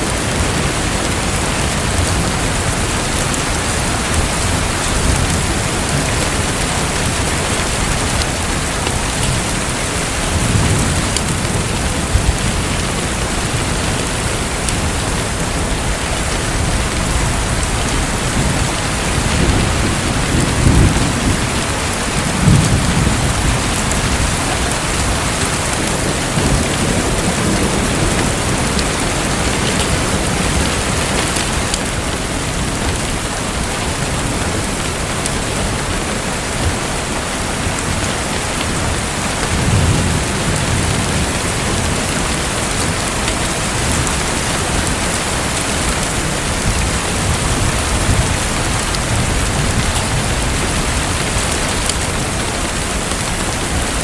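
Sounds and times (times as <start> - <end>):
dense water noise: 0.0 - 54.0.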